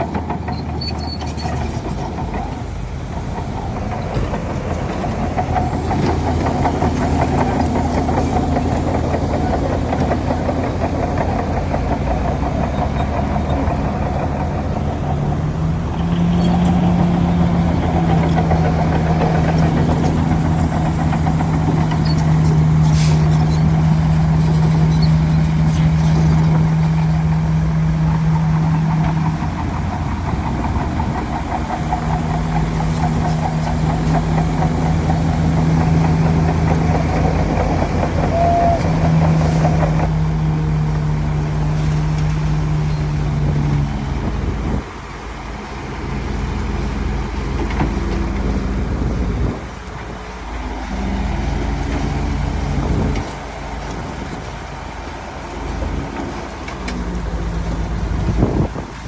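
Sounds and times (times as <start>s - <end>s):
heavy diesel machinery engine hum: 0.0s - 59.0s.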